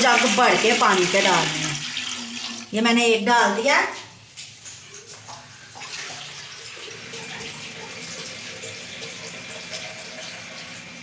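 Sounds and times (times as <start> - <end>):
water filling a jug: 0.0 - 2.8, 4.6 - 11.0.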